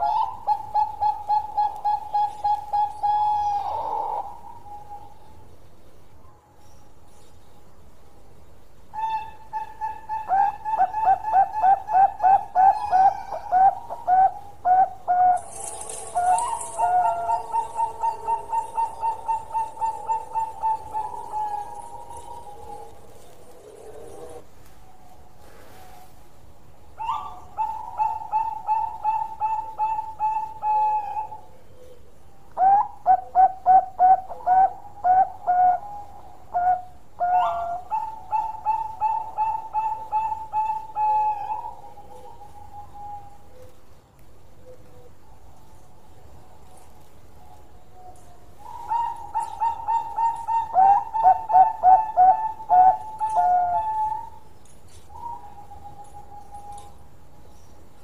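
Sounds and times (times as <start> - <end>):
dove cooing: 0.0 - 5.4, 8.9 - 26.0, 27.0 - 43.9, 44.5 - 57.3.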